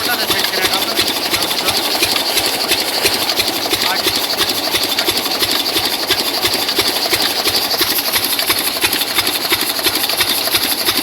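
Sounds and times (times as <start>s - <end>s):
diesel engine knocking: 0.0s - 11.0s.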